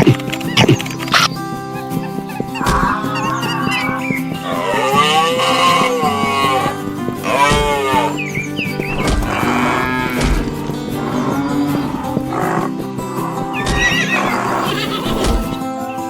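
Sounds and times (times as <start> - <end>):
background music: 0.0 - 16.0
horse whinnying: 1.8 - 15.7.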